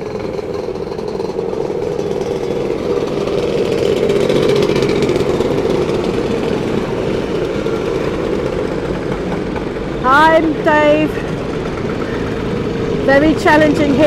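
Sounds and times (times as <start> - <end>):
scooter engines droning: 0.0 - 14.0.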